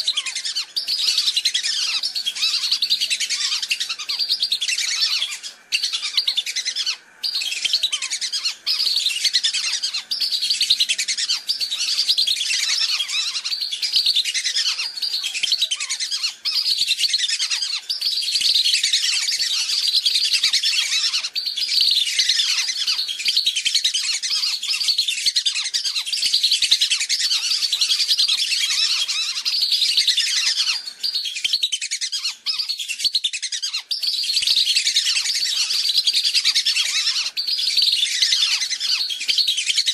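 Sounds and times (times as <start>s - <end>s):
whistling ducks calling: 0.0s - 39.9s.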